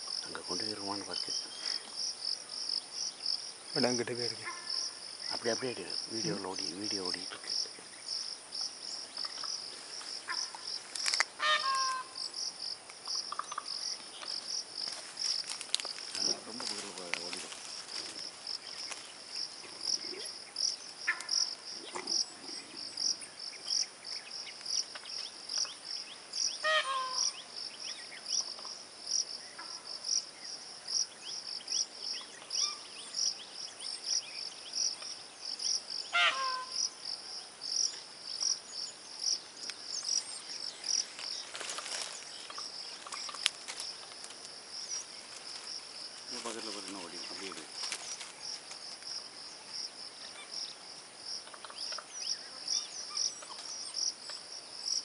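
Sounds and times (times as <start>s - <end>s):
insects chirping chorus: 0.0s - 55.0s.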